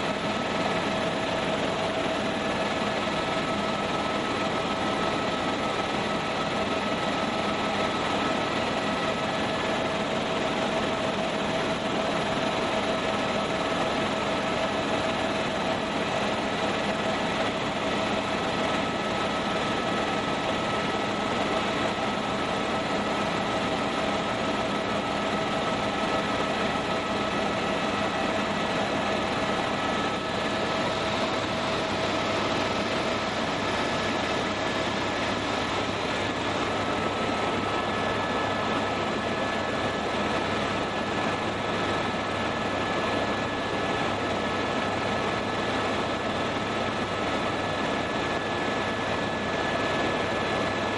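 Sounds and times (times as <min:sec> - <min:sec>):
constant engine whine: 0:00.0 - 0:50.9
helicopter engine and rotor noise: 0:00.0 - 0:50.9.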